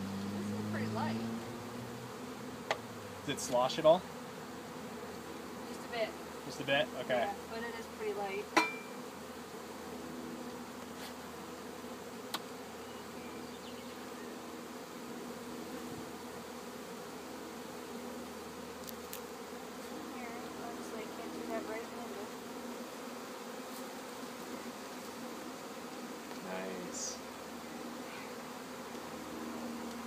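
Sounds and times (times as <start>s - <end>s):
honey bees buzzing: 0.0s - 30.0s.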